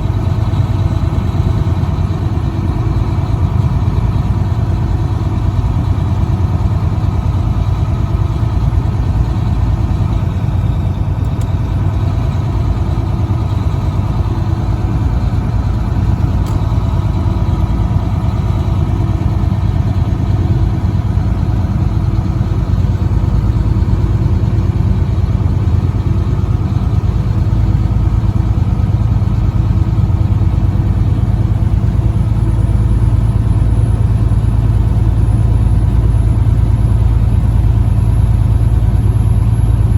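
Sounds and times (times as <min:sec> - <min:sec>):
road noise: 0:00.0 - 0:39.9
truck engine droning: 0:00.0 - 0:39.9.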